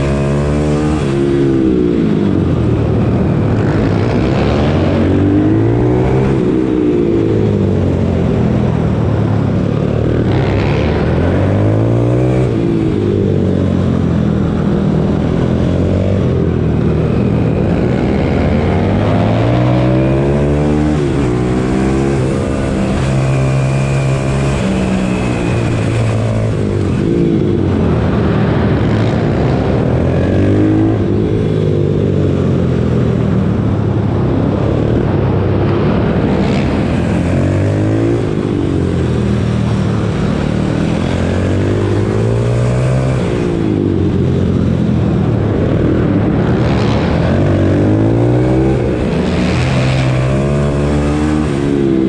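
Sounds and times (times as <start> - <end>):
motorbike engine revving: 0.0 - 33.3, 34.3 - 52.0.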